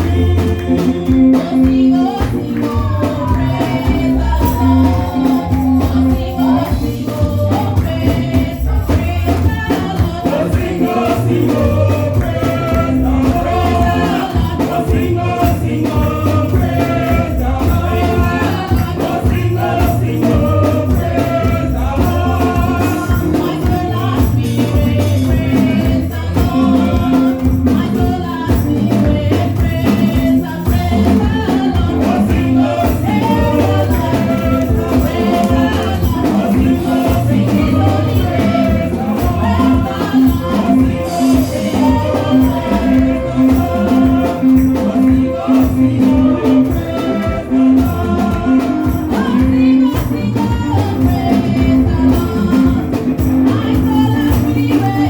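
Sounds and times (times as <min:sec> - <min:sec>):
praise band playing: 0:00.0 - 0:55.0
tambourine shaking: 0:00.0 - 0:55.0.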